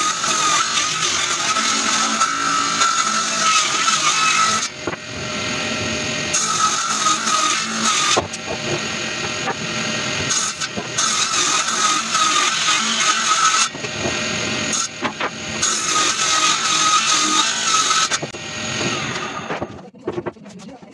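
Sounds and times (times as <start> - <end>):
saw motor whine: 0.0 - 19.9
table saw ripping wood: 0.0 - 19.9.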